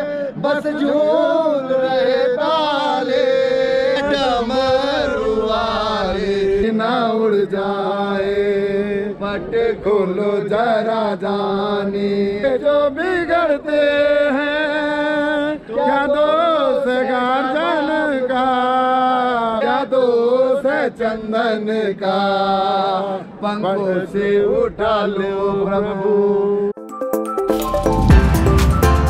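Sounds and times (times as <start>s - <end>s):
men chanting together: 0.0s - 26.4s.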